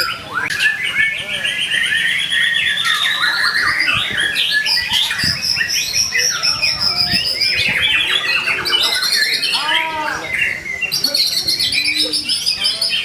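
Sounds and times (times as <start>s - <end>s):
bird singing varied whistles and trills: 0.0s - 13.0s.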